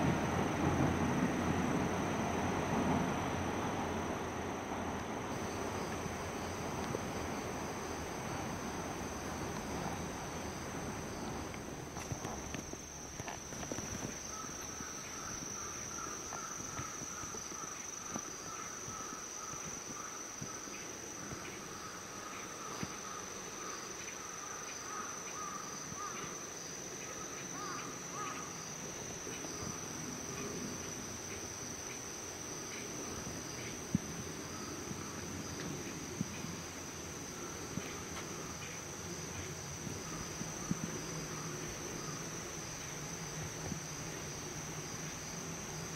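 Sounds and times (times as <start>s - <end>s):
lower pulsing insect call: 0.0s - 45.9s.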